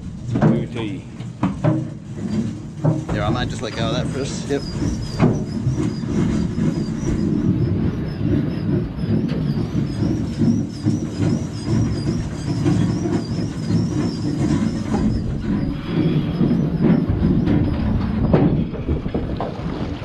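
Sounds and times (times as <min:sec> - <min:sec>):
boat engine and wind rumble: 0:00.0 - 0:20.0.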